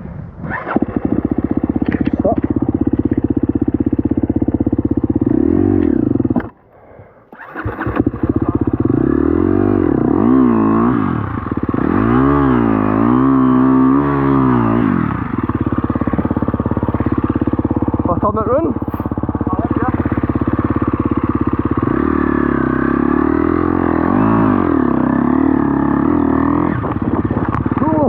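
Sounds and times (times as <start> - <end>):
dirt bike engine revving: 0.4 - 6.6, 7.3 - 28.0.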